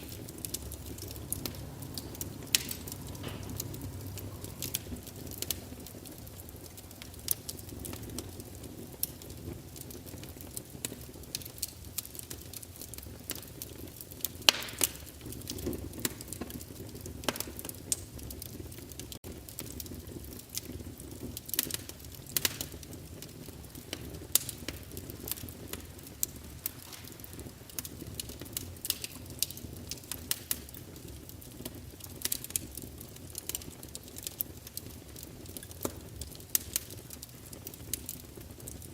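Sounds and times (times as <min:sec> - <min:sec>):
loud pops of fire: 0:00.0 - 0:38.9
wood fire crackling: 0:00.0 - 0:38.9.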